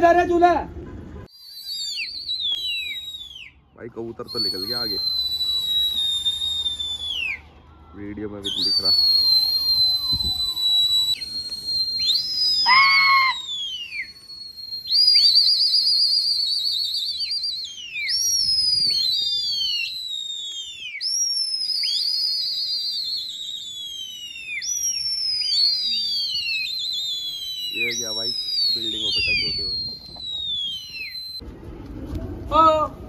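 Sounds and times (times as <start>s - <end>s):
people whistling loudly: 1.2s - 31.4s.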